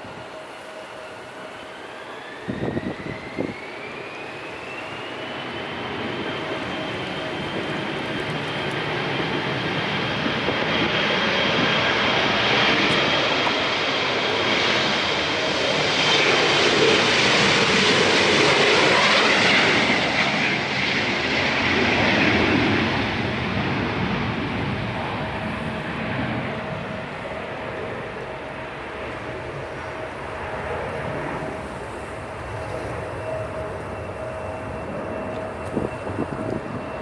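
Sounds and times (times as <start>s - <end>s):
jet engines passing: 0.0s - 37.0s.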